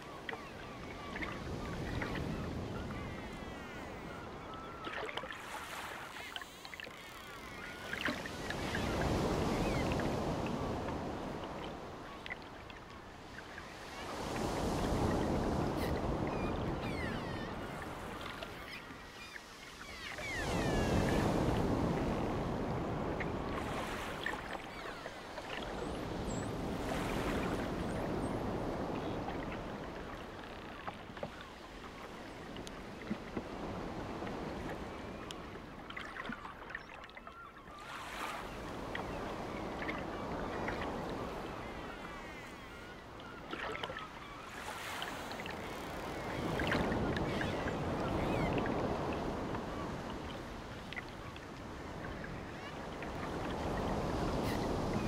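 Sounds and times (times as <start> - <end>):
sea waves breaking: 0.0 - 55.0.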